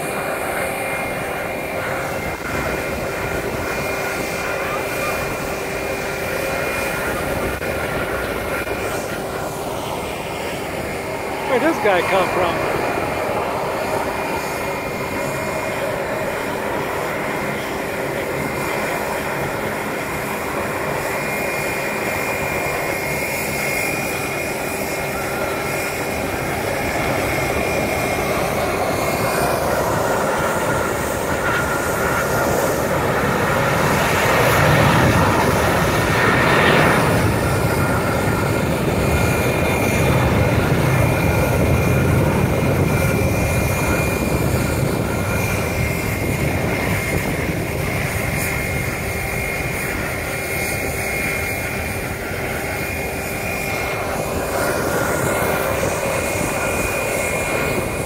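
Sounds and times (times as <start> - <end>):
jet engine whine and rumble: 0.0 - 58.0.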